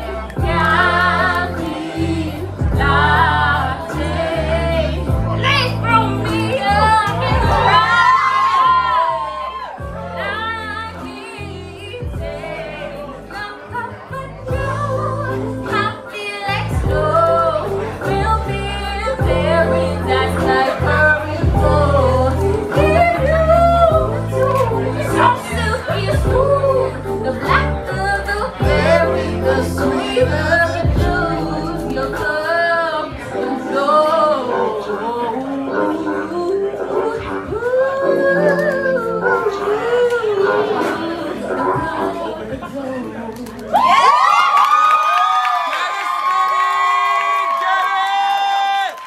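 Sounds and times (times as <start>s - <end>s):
person singing: 0.0s - 43.7s
backing track with bass: 0.0s - 44.1s.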